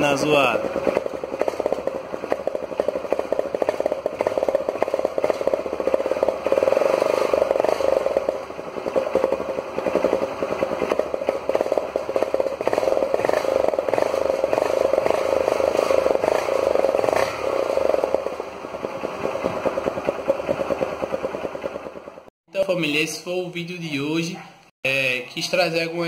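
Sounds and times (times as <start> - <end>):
motorcycle engine pulsing exhaust: 0.0 - 22.3.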